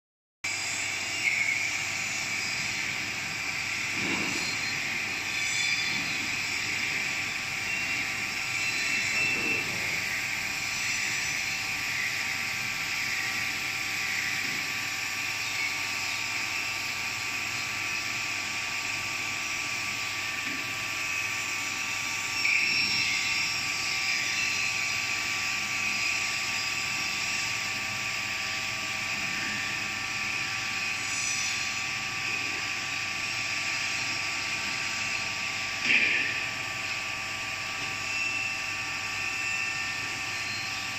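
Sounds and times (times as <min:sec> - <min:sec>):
machine whine: 0:00.5 - 0:40.9.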